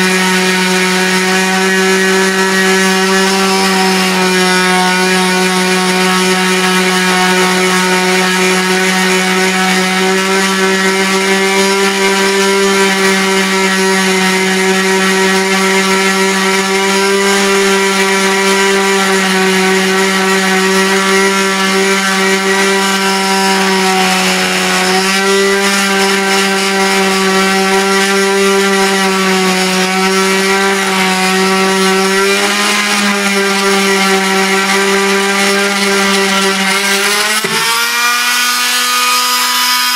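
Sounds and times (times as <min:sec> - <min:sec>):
oscillating saw cutting wood: 0:00.0 - 0:39.9.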